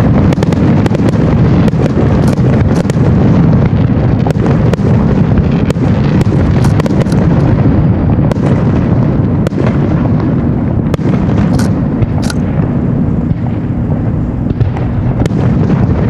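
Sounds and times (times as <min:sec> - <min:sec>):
firework booms: 0:00.0 - 0:16.0
sharp firework cracks: 0:00.0 - 0:16.0.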